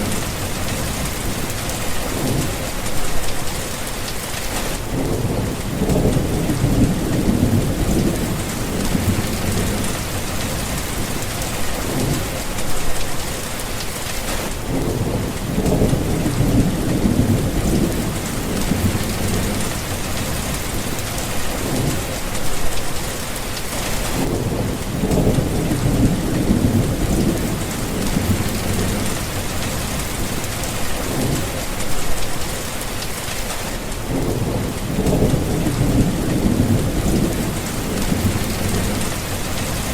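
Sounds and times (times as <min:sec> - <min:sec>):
thunder rumbling: 0:00.0 - 0:13.7, 0:14.4 - 0:23.2, 0:23.9 - 0:33.1, 0:34.0 - 0:39.9
heavy rain: 0:00.0 - 0:39.9.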